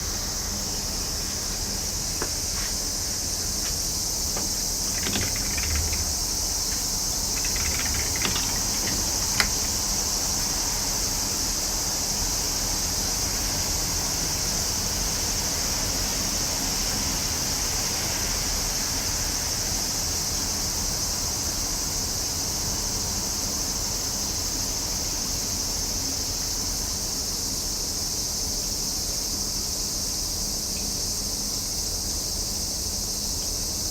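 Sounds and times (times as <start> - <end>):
cicadas droning: 0.0 - 33.9.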